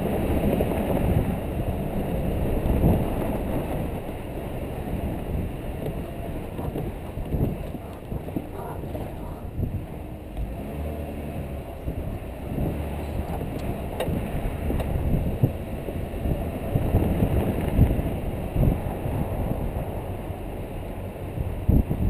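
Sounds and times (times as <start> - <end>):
car engine running: 0.0 - 22.0
wind buffeting microphone: 0.0 - 22.0.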